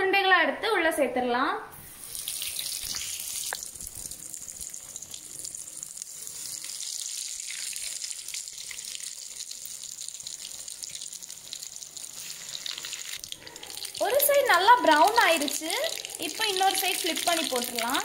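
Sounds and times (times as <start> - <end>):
deep-frying sizzle: 1.9 - 18.0.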